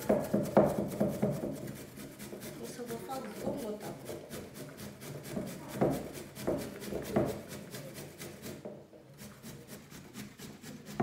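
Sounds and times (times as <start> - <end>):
grating on metal box grater: 0.0 - 8.6, 9.2 - 11.0.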